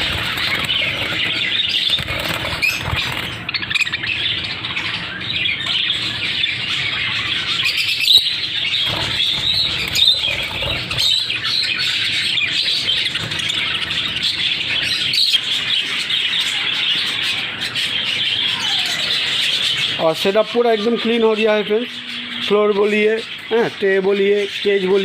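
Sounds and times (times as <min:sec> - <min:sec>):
budgerigars chattering and chirping: 0:00.0 - 0:25.0.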